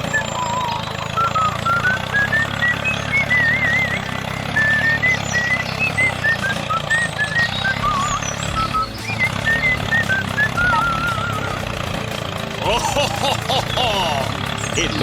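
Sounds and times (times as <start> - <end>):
vehicle engine humming: 0.0 - 15.0
warbling tune: 0.0 - 15.0.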